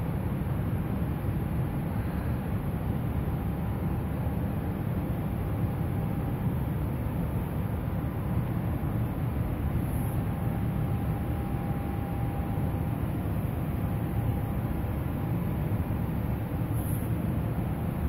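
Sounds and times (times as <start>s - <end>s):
faint steady hum: 0.0s - 18.0s
low rumbling background noise: 0.0s - 18.0s.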